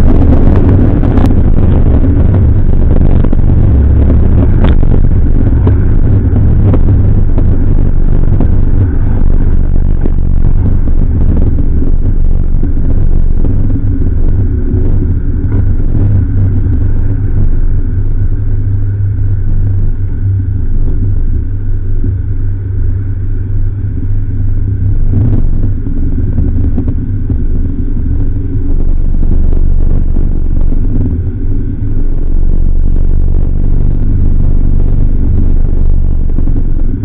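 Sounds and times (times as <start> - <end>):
car engine droning at low speed: 0.0 - 37.0
road noise: 0.0 - 37.0.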